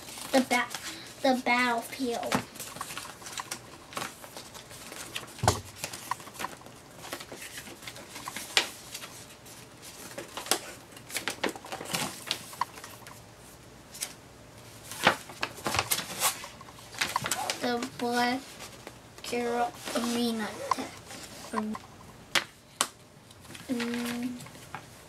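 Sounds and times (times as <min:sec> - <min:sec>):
paper rustling and crackling: 0:00.0 - 0:21.8, 0:22.4 - 0:25.0.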